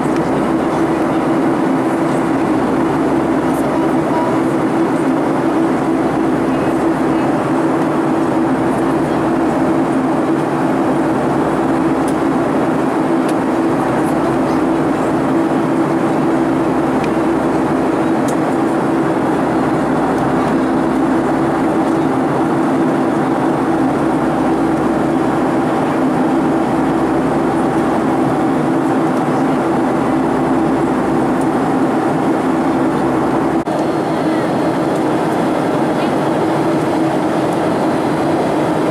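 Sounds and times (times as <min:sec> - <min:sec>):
engine and airflow rush: 0:00.0 - 0:38.9
steady low hum: 0:00.0 - 0:38.9.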